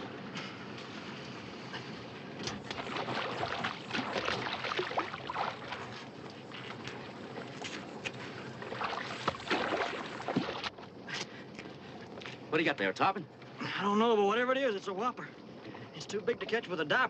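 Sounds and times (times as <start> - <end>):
water splashing and sloshing: 0.0 - 13.8, 14.6 - 17.0.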